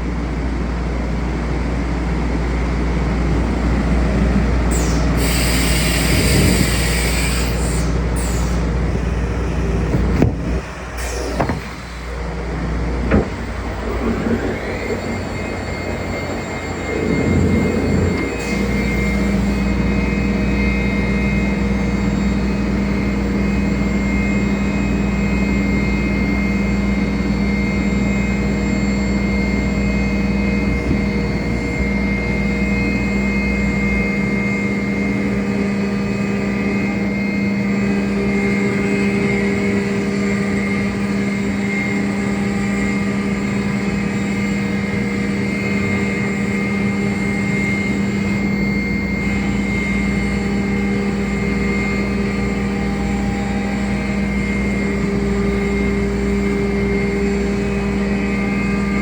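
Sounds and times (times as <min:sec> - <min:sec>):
low machine hum: 0:00.0 - 0:59.0
router spindle whining: 0:03.6 - 0:59.0.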